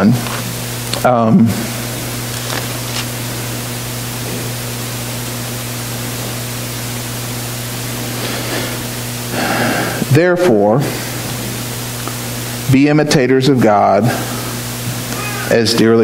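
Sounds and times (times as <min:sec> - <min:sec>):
low electrical hum: 0:00.0 - 0:16.0
steady hiss: 0:00.0 - 0:16.0.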